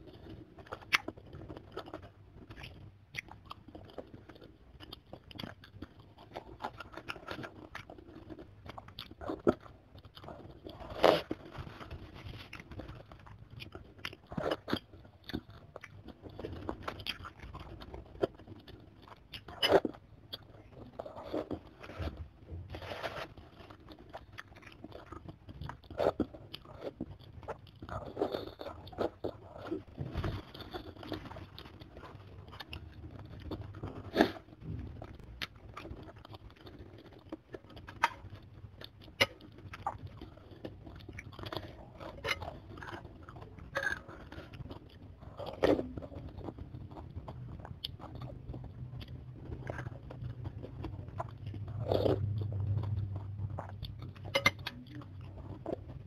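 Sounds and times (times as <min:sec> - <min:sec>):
cartilage crunching: 0:00.0 - 0:56.0
chewing with wet mouth sounds: 0:00.0 - 0:56.0.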